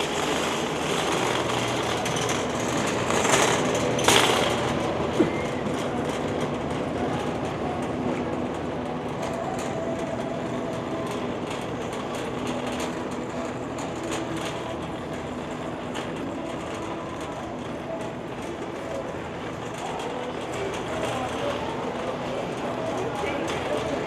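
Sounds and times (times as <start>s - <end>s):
hum of a busy store: 0.0s - 24.0s
shopping cart rattling: 0.0s - 24.0s.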